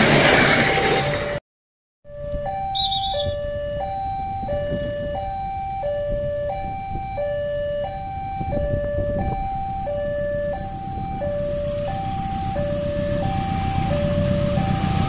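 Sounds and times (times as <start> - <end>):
level crossing two-tone alarm: 2.1 - 15.0.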